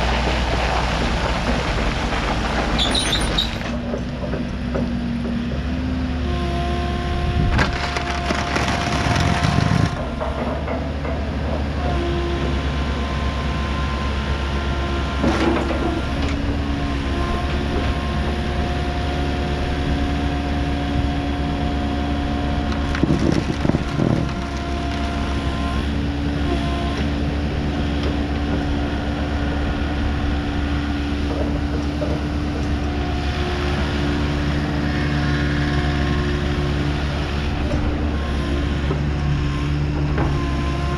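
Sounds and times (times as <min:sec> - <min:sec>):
diesel excavator engine under load: 0:00.0 - 0:40.9.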